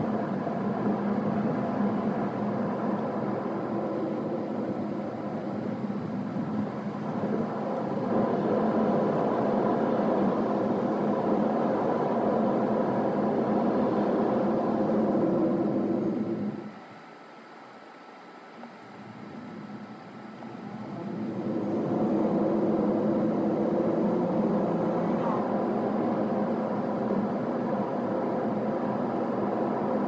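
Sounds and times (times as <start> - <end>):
car road and engine noise: 0.0 - 16.8, 20.3 - 30.0.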